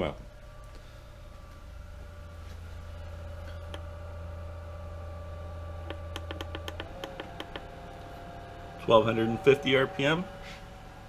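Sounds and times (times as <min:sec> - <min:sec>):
pool pump motor humming: 0:00.3 - 0:11.0.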